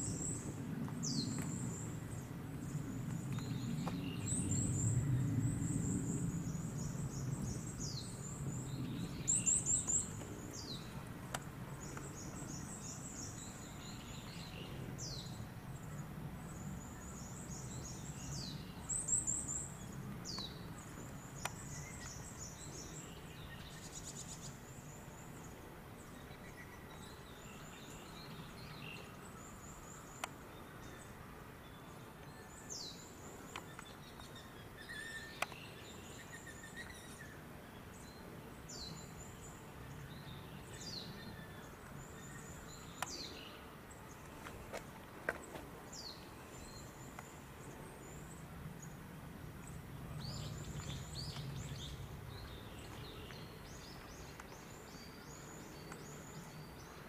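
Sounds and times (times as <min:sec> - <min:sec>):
small birds chirping: 0:00.0 - 0:49.0, 0:49.6 - 0:57.0.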